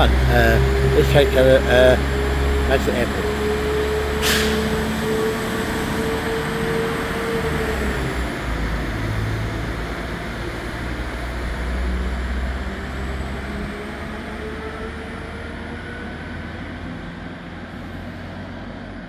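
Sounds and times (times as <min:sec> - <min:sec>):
train rumble and hum: 0:00.0 - 0:19.0
train whine: 0:00.0 - 0:19.0.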